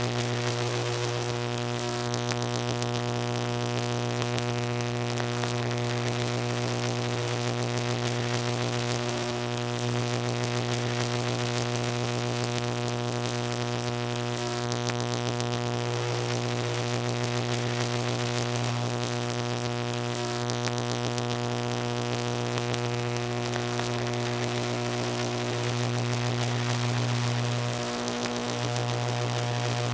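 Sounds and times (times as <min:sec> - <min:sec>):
crackly hiss: 0:00.0 - 0:29.9
electricity buzzing hum: 0:00.0 - 0:29.9.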